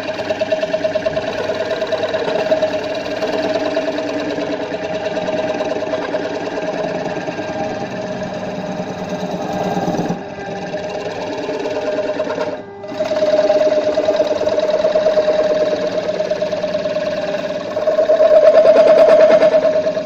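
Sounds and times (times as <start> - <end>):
wood lathe with chisel chatter: 0.0 - 20.0.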